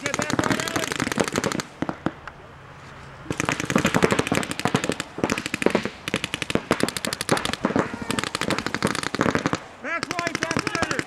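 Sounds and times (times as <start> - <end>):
paintball markers firing: 0.0 - 2.2, 3.3 - 11.0.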